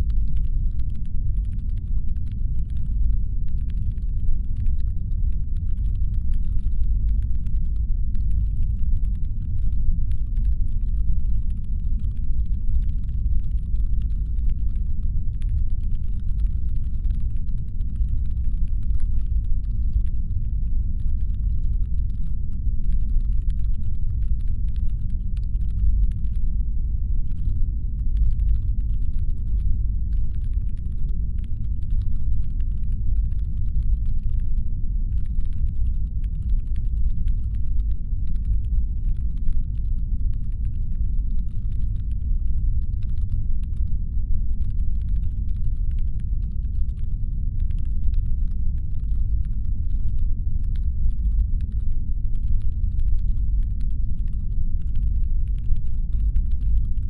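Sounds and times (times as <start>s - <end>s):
deep brown-noise rumble: 0.0s - 57.0s.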